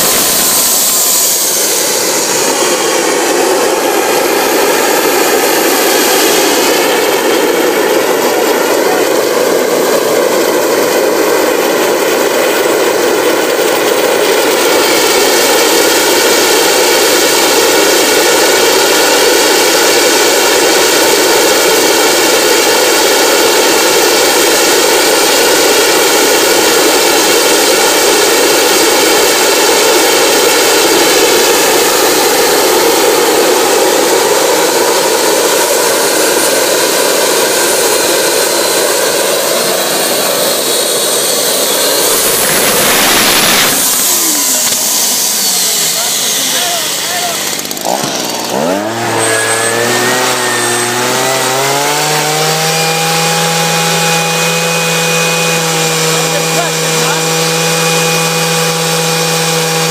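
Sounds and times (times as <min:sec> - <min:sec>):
jet engine roaring: 0:00.0 - 0:53.4
high turbine whine: 0:00.0 - 0:59.9.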